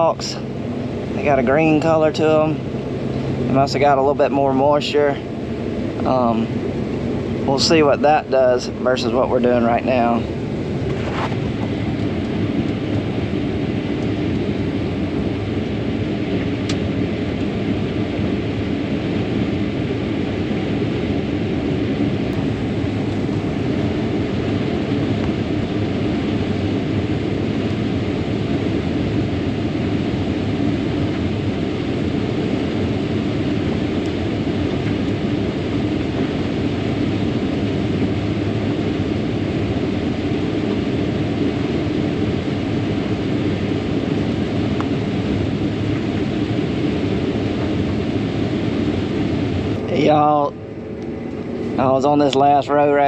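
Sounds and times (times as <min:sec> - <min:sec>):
combine harvester running: 0:00.0 - 0:53.0.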